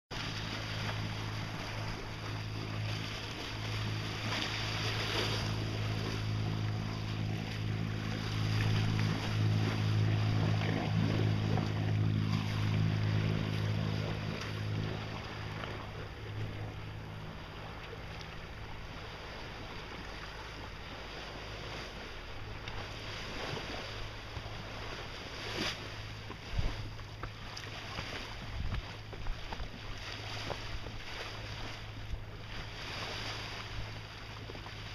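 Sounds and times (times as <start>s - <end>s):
boat engine humming: 0.1s - 34.9s
water splashing along hull: 0.1s - 34.9s
wind on microphone: 0.2s - 34.9s.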